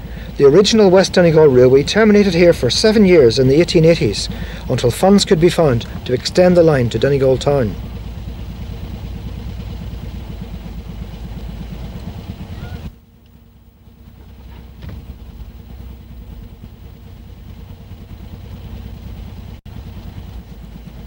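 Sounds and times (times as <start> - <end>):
diesel railcar engine rumble: 0.0 - 21.0.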